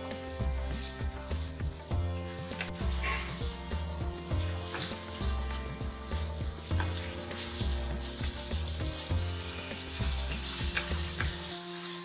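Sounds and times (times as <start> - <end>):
background music with steady beat: 0.0 - 12.0
food sizzling and frying: 0.0 - 12.0
spatula stirring: 0.5 - 11.9.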